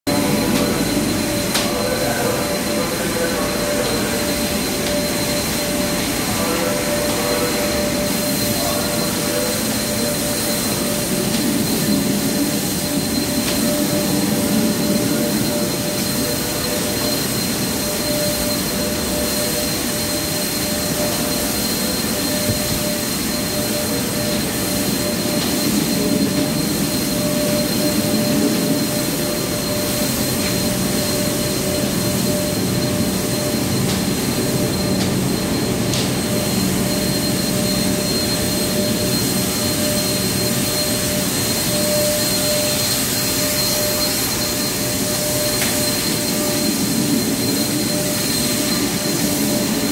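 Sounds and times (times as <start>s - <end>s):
motorized sprayer whining: 0.1s - 49.9s.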